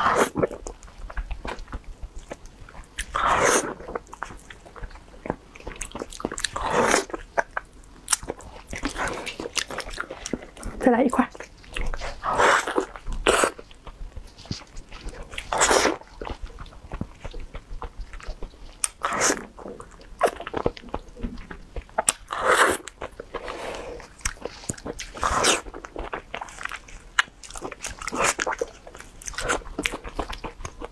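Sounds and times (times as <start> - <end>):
wet mouth chewing: 0.0 - 30.9.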